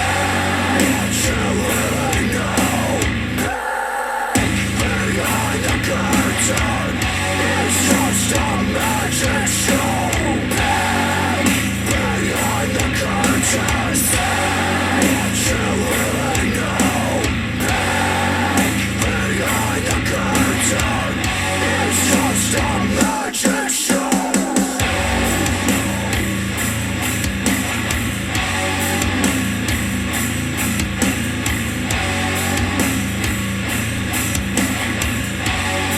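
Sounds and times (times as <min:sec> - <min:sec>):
heavy rock music: 0:00.0 - 0:35.9.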